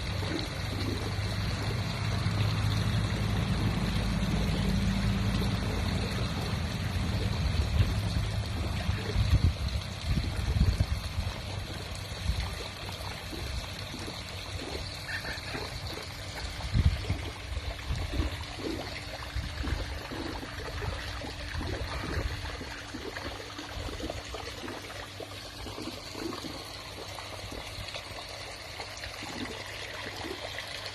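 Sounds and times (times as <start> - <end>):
pool water trickling and pouring: 0.0 - 30.9.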